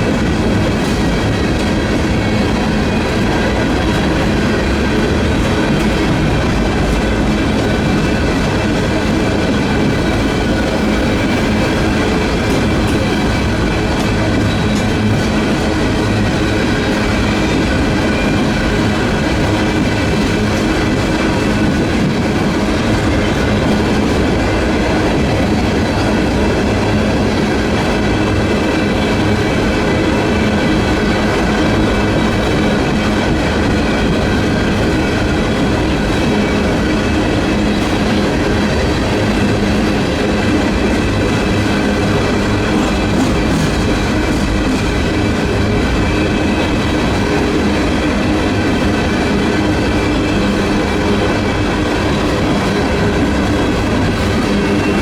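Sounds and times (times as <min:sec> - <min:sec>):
freight train rolling rumble: 0:00.0 - 0:55.0
wheels ringing on rails: 0:00.0 - 0:55.0.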